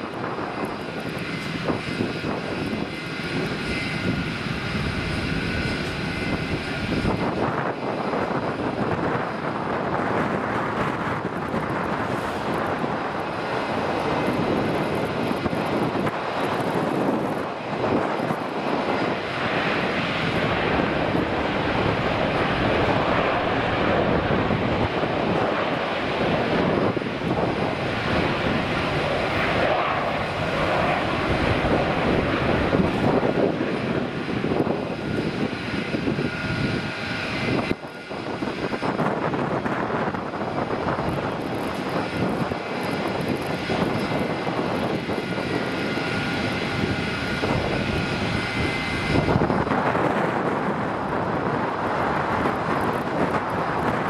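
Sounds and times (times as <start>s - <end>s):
jet engines rumbling with whine: 0.0s - 54.0s.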